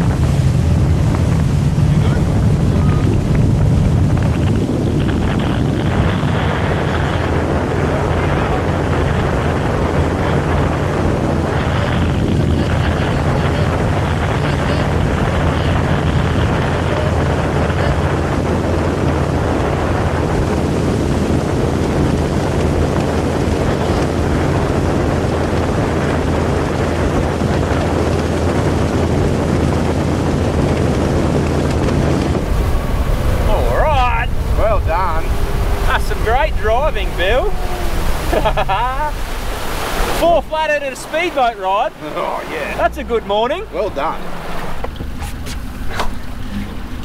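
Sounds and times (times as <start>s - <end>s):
rushing wind and water: 0.0s - 47.0s
speedboat engine drone: 0.0s - 47.0s
wind buffeting microphone: 0.0s - 47.0s.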